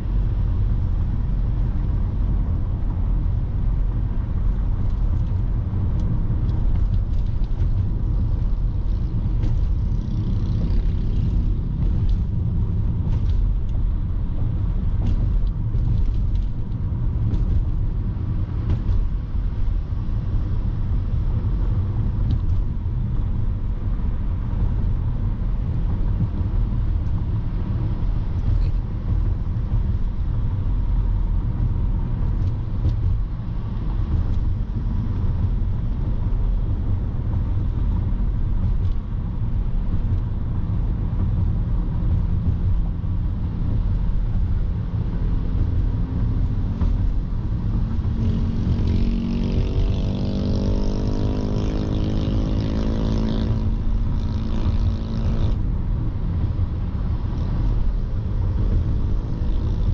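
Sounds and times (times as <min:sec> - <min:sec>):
tyre and road noise: 0:00.0 - 0:59.9.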